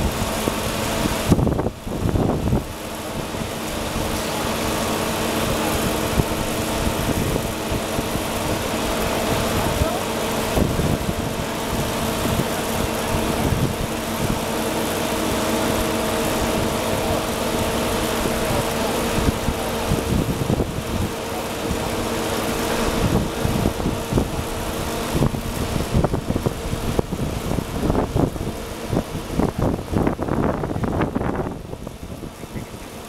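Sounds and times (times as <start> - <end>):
travel lift engine humming: 0.0 - 33.0
wind buffeting microphone: 0.0 - 33.0.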